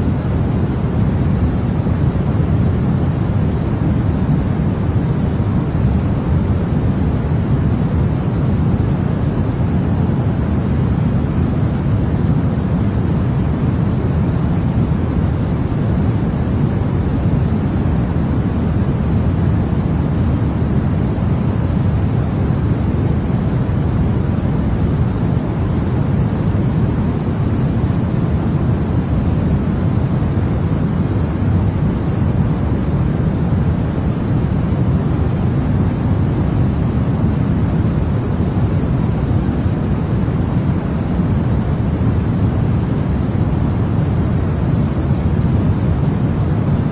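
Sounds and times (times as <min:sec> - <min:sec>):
deep rushing white noise: 0:00.0 - 0:46.9.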